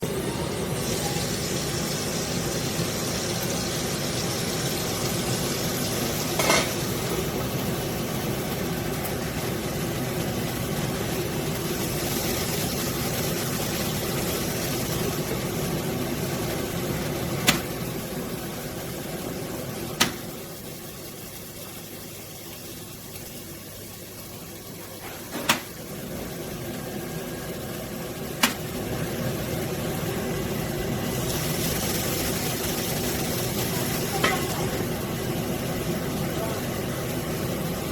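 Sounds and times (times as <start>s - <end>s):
extractor hood fan running: 0.0s - 37.9s.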